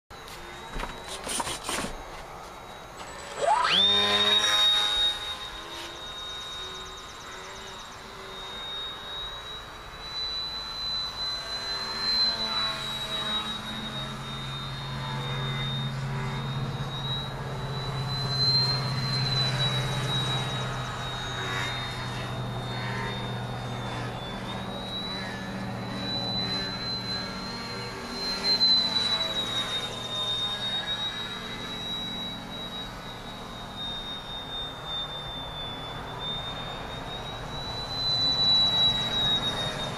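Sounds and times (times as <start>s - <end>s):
model airplane motor whining: 0.2s - 39.9s.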